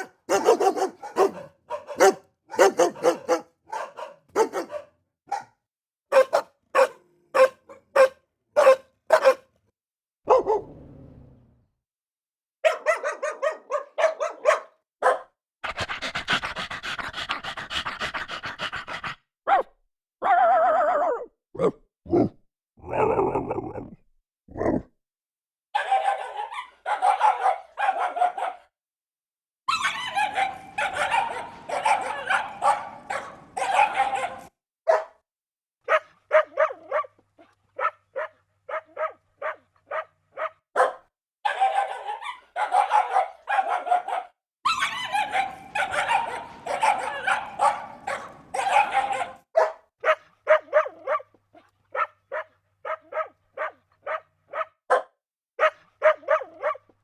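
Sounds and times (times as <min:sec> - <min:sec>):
dogs barking angrily: 0:00.0 - 0:09.5, 0:10.3 - 0:10.7, 0:12.6 - 0:19.6, 0:25.8 - 0:28.7, 0:29.7 - 0:35.2, 0:35.9 - 0:37.2, 0:37.8 - 0:56.9.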